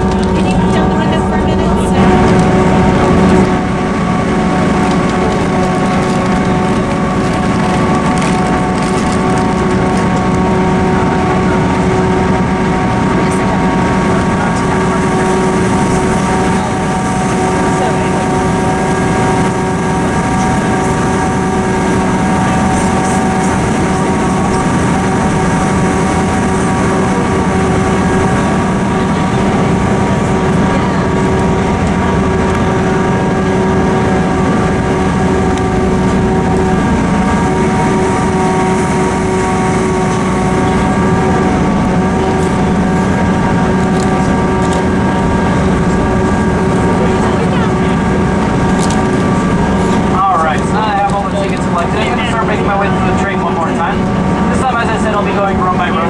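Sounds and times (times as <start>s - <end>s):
constant whining tones: 0.0s - 56.0s
train engine drone and rumble: 0.0s - 56.0s.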